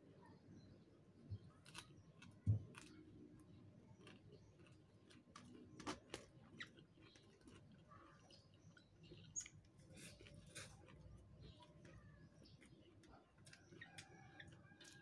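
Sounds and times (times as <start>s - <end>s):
chewing: 1.6s - 15.0s.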